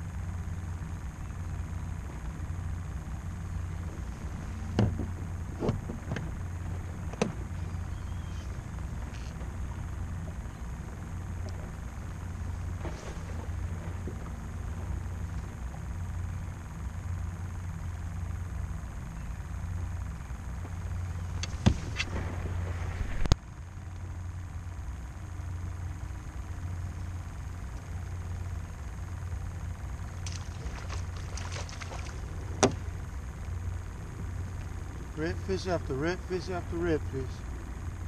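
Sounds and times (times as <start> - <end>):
low motor hum: 0.0 - 38.0.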